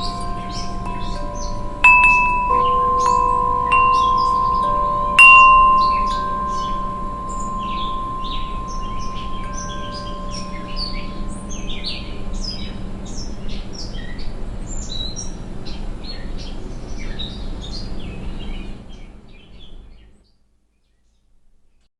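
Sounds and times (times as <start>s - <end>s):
songbirds chirping: 0.0s - 21.3s.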